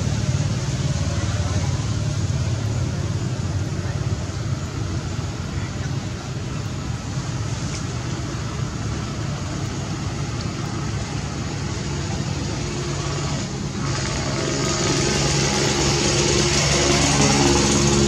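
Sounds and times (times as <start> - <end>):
low rumble with hiss: 0.0 - 18.0.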